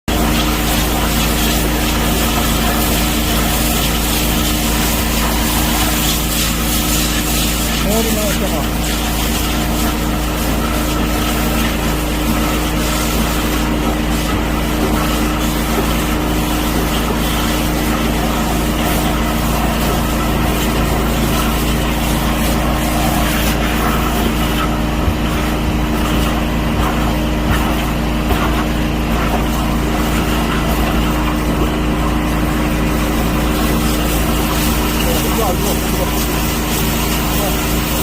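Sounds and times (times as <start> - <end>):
machine droning: 0.1 - 38.0.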